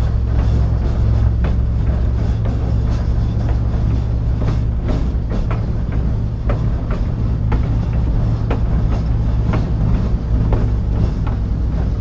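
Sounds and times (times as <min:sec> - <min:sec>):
diesel locomotive engine drone: 0:00.0 - 0:12.0
wheels clicking over rail joints: 0:00.0 - 0:12.0.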